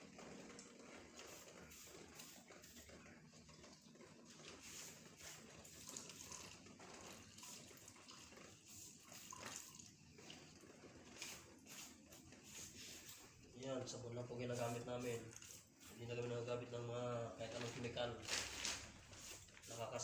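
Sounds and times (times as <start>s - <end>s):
running and splashing water: 0.0s - 16.5s.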